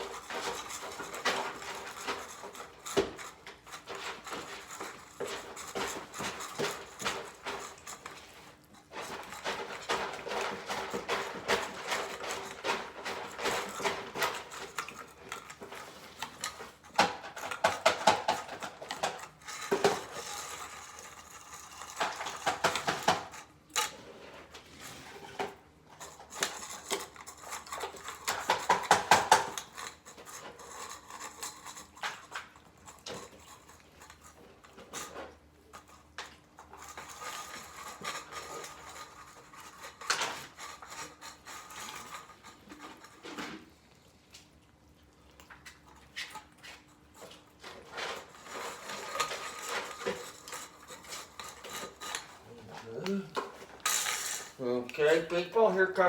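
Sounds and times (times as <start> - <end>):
metal utensil scraping dishes: 0.0 - 43.8, 47.4 - 55.8.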